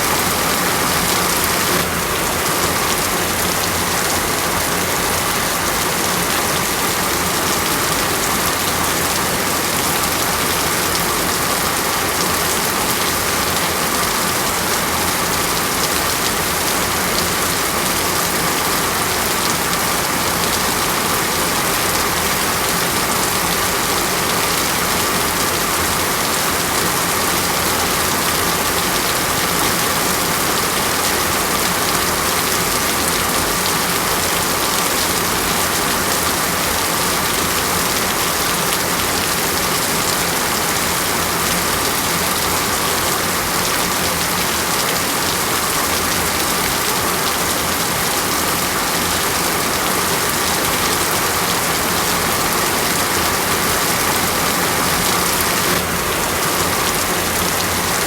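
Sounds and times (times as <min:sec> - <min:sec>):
heavy rain on a surface: 0:00.0 - 0:58.0.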